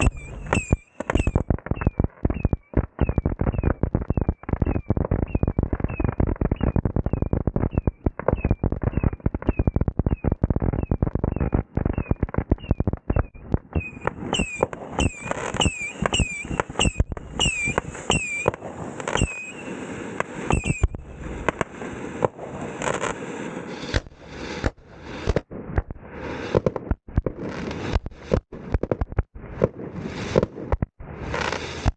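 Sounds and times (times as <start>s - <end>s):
falling firework whistles: 0.0s - 25.4s, 29.4s - 31.9s
fireworks cracking: 0.0s - 31.9s.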